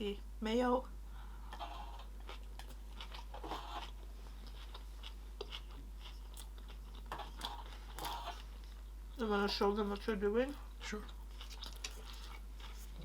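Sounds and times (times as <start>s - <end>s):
chewing crunchy food: 1.5s - 13.0s.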